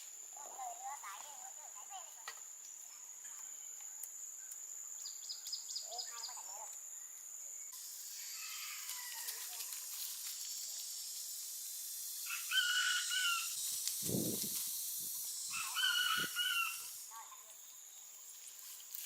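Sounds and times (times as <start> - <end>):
steady hiss: 0.0 - 5.7, 7.6 - 19.0.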